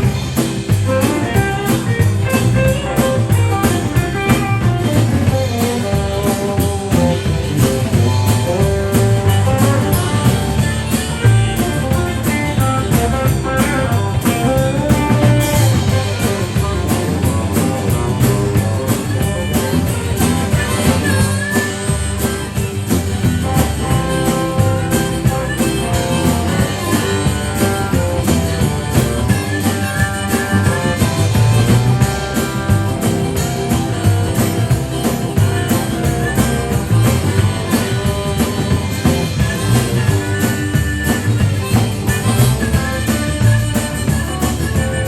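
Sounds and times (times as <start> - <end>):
guitar lead: 0.0 - 45.0
live band playing country blues: 0.0 - 45.0.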